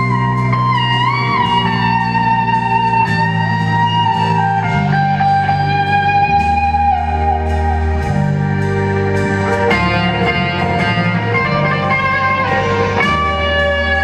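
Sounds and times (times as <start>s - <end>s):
electric guitar blues melody: 0.0s - 14.0s
held low chords: 0.0s - 14.0s.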